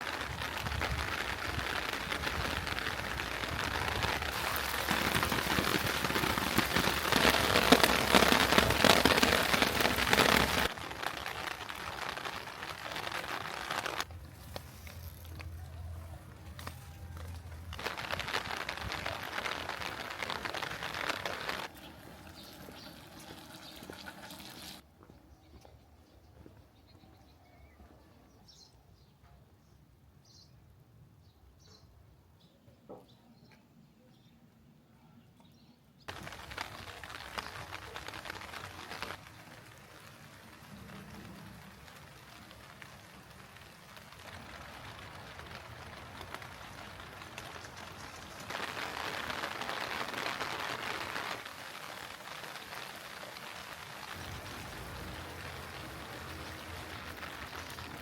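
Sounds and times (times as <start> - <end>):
heavy rain falling: 0.0 - 24.8, 36.1 - 58.0.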